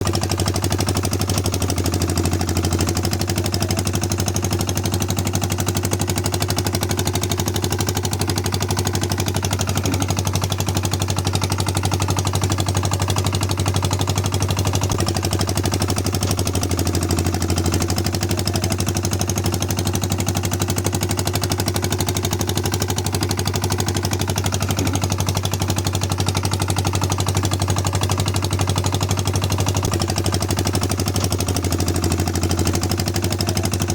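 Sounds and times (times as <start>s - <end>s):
small engine chugging: 0.0s - 33.9s.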